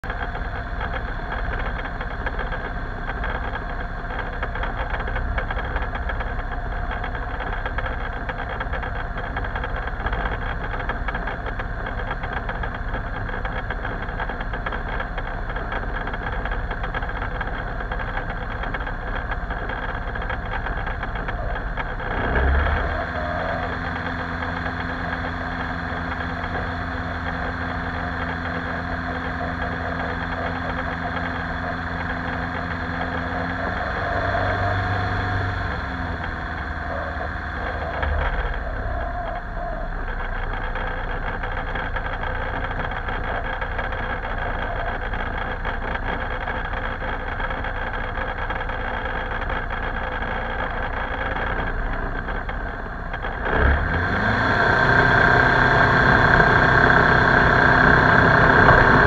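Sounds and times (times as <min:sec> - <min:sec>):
light airplane engine idling: 0:00.0 - 0:59.0.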